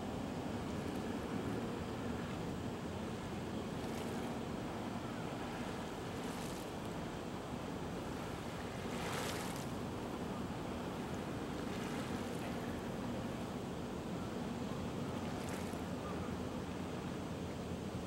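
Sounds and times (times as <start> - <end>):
choppy water washing: 0.0 - 17.3.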